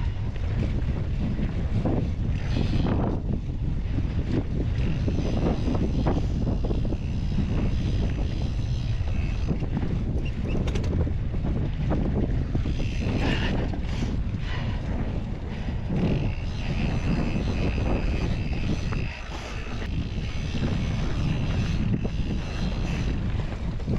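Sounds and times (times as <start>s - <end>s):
wind rushing over microphone: 0.0s - 23.9s.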